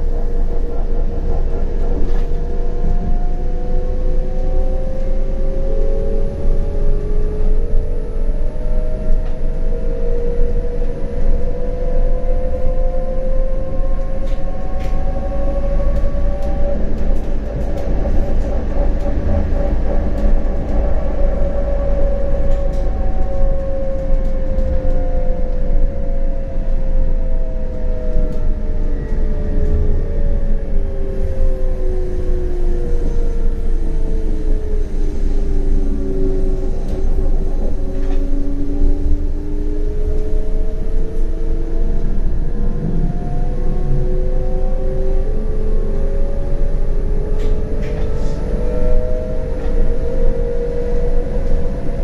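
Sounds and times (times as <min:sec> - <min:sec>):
tram rumbling over rails: 0:00.0 - 0:52.0.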